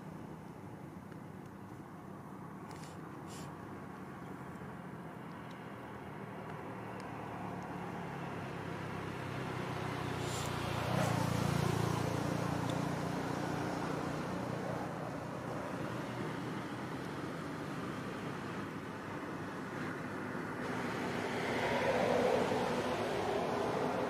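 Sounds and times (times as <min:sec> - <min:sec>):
vehicle engine hum passing by: 0:02.7 - 0:24.0.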